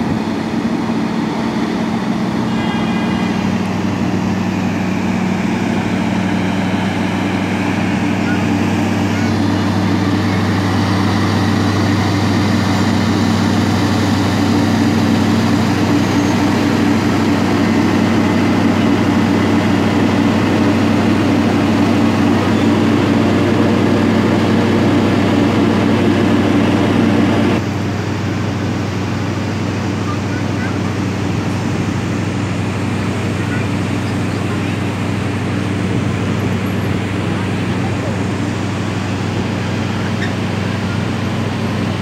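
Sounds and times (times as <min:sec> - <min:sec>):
diesel train engine drone: 0:00.0 - 0:42.0
higher hum: 0:00.0 - 0:42.0.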